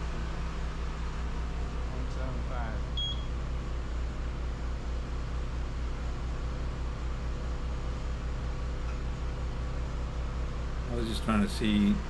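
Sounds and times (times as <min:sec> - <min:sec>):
machine hum with pulsing: 0:00.0 - 0:12.0.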